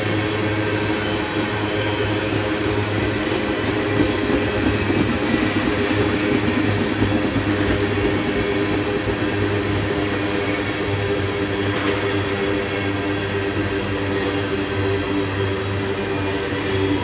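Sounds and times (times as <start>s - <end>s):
clickety-clack of train wheels: 0.0s - 17.0s
train wheels rumbling on rails: 0.0s - 17.0s.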